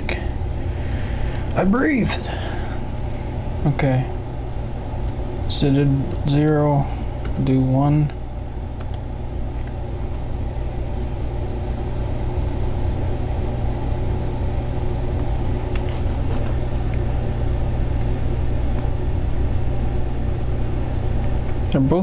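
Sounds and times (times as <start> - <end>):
low mechanical hum and rumble: 0.0 - 22.0.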